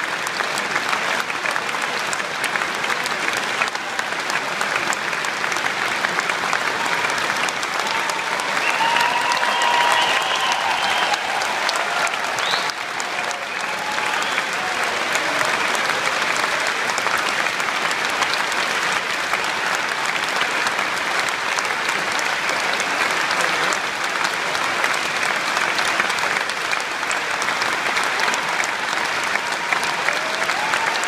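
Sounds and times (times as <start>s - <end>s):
crowd applauding: 0.0s - 31.0s.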